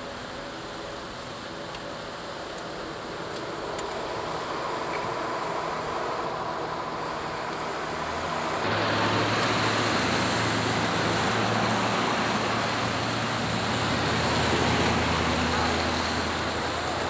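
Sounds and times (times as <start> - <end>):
motor vehicle engine hum: 0.0 - 17.0.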